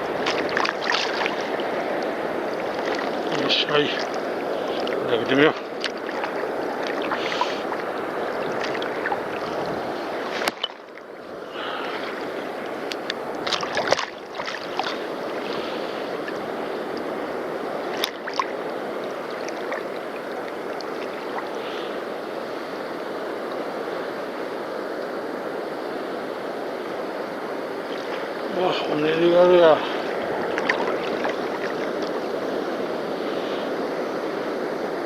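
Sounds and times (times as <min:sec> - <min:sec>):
sea water washing: 0:00.0 - 0:35.0
wind: 0:00.0 - 0:35.0.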